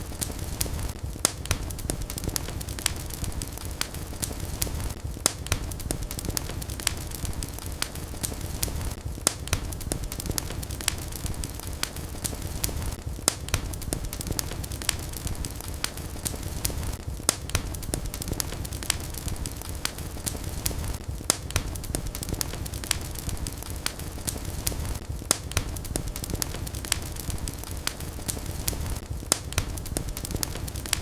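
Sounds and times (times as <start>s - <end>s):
fire crackling in a fireplace: 0.0s - 31.0s.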